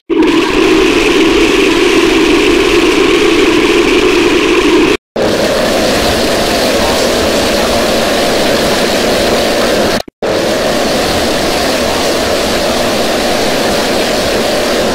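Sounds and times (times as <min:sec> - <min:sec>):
harsh distorted jingle roar: 0:00.0 - 0:14.9.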